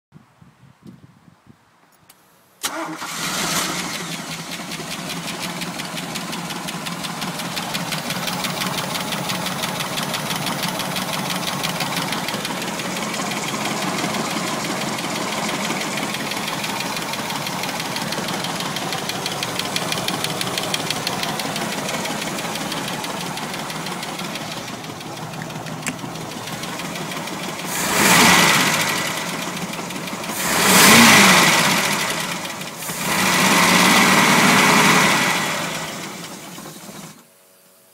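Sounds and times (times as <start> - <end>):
engine revving: 2.6 - 37.2
boat engine idling: 4.4 - 37.1.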